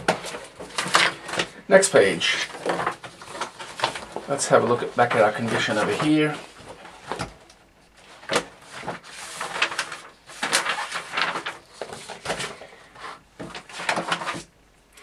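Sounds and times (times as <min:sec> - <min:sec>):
booklet pages turning: 0:00.0 - 0:14.5
paper rustling: 0:00.0 - 0:14.5.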